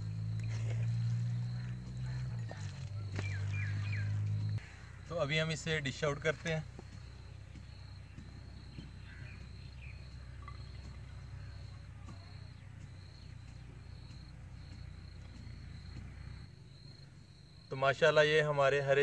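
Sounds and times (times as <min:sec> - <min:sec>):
low steady rumble: 0:00.0 - 0:17.7
insects chirping: 0:00.0 - 0:19.0.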